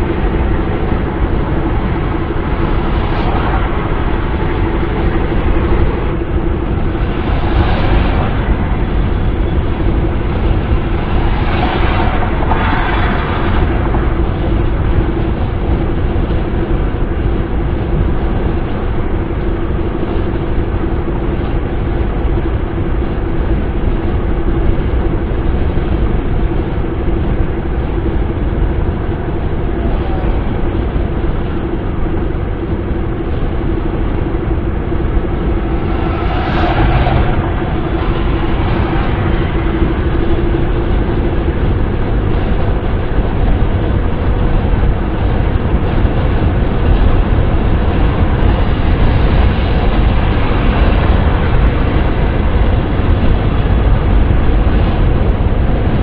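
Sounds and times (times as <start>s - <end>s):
car wind and road noise: 0.0s - 56.0s
faint steady hum: 0.0s - 56.0s.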